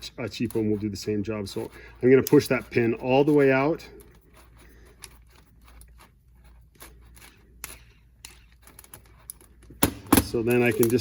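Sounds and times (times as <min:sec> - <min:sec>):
metal clicks and scrapes: 0:00.0 - 0:11.0.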